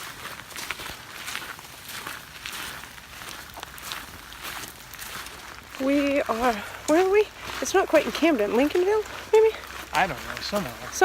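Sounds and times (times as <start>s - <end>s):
footsteps on wet dirt: 0.0s - 11.0s.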